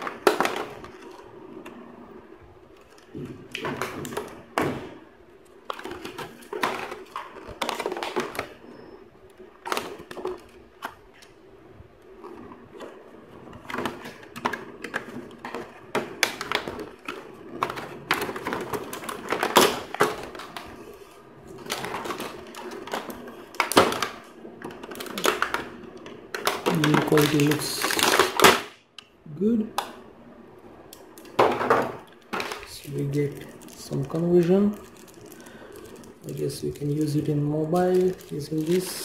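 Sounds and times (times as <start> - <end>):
plastic packaging crackling: 0.0 - 30.0, 30.8 - 39.0.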